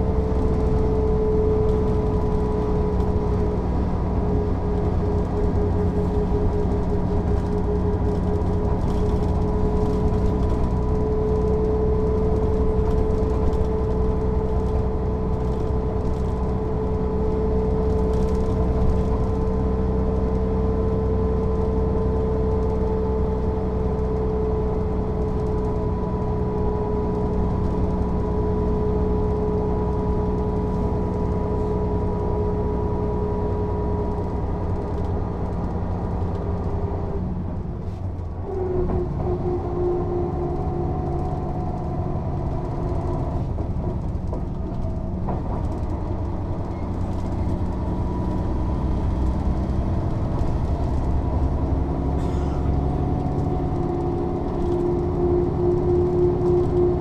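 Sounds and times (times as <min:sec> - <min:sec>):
bus diesel engine cruising: 0:00.0 - 0:57.0.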